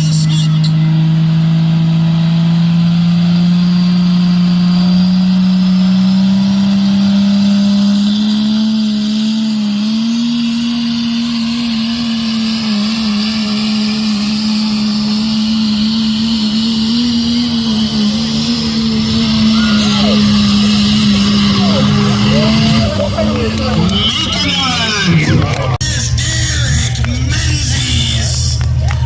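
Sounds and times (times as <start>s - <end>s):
diesel truck engine under load: 0.0s - 29.0s.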